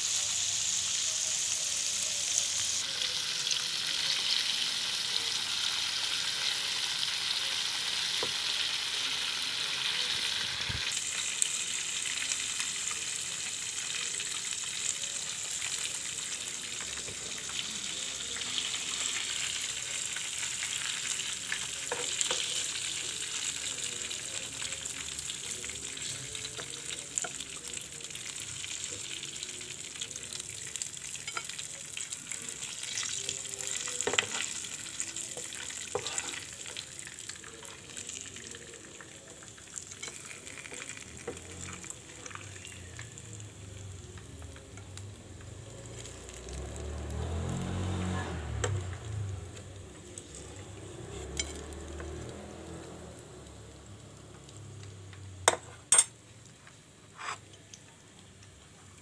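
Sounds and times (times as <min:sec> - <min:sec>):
chicken frying in oil: 0:00.0 - 0:59.0.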